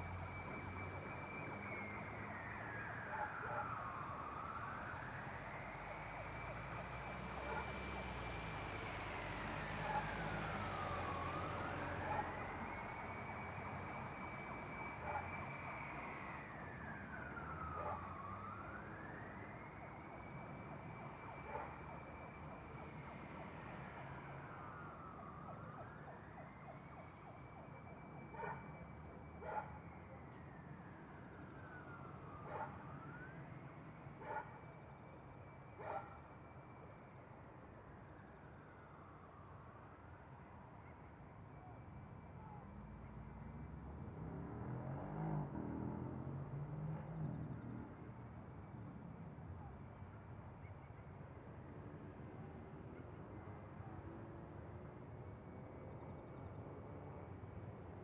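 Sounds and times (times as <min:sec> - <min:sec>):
distant siren wailing: 0:00.0 - 0:58.0
road noise rush: 0:00.0 - 0:58.0
traffic rumble: 0:00.0 - 0:58.0.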